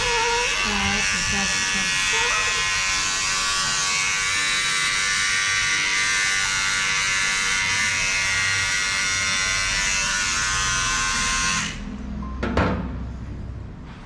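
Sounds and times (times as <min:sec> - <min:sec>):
electric hair clipper buzzing: 0:00.0 - 0:11.9.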